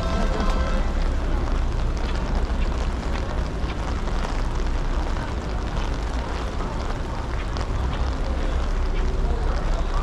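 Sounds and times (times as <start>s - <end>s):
low rumble: 0.0s - 10.0s
rain on wet paving: 0.0s - 10.0s.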